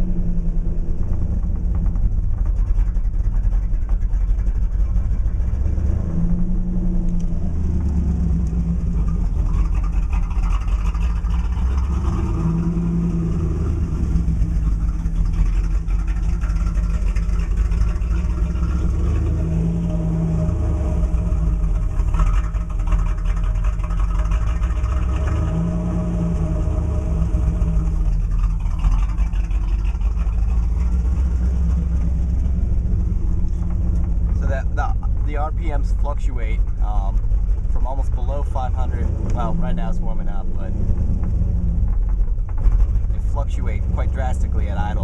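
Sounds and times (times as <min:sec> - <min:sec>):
car engine idling roughly: 0:00.0 - 0:45.0.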